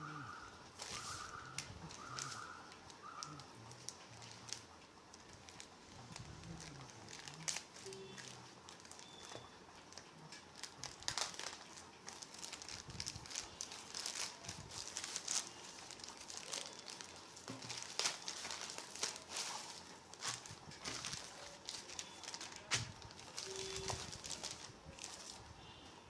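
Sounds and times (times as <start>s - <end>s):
packaging crinkling: 0.2s - 25.5s
small crackles and clicks: 0.8s - 25.5s.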